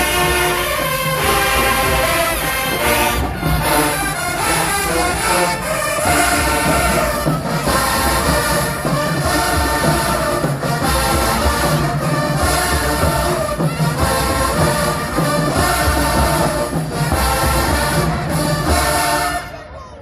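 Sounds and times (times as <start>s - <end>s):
marching drum line: 0.0s - 19.6s
brass playing sustained chords: 0.0s - 19.7s.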